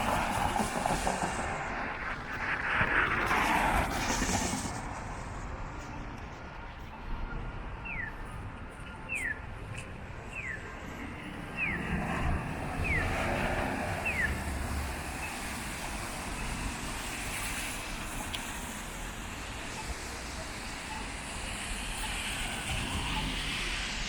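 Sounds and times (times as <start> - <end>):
traffic on wet street: 0.0 - 24.0.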